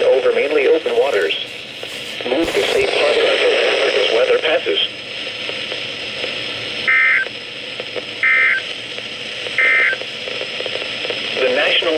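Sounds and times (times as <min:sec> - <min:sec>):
radio static hiss: 0:00.0 - 0:11.9.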